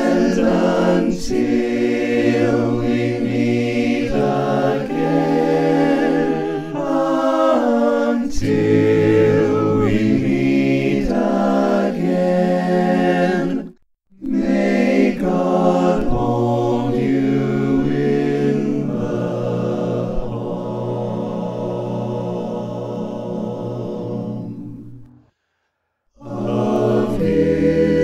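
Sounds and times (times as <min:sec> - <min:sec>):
a cappella chorus singing harmony: 0:00.0 - 0:28.0.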